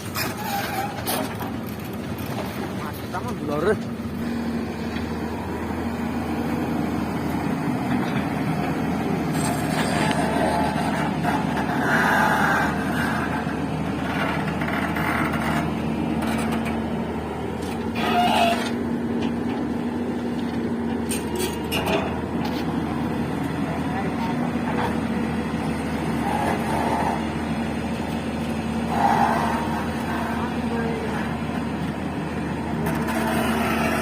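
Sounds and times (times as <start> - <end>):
irregular mechanical noises: 0.0 - 5.8, 6.4 - 34.0
diesel engine running: 0.0 - 34.0.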